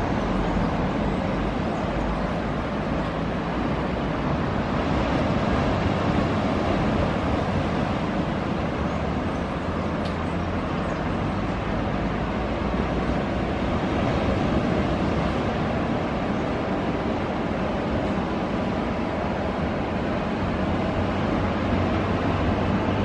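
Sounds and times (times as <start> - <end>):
distant road traffic: 0.0 - 23.0
ocean surf: 0.0 - 23.0.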